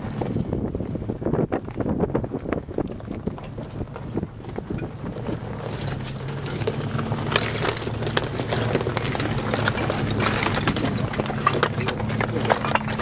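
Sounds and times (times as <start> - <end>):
car engine running at low revs: 0.0 - 13.0
tyres crunching over stone slabs: 1.6 - 13.0.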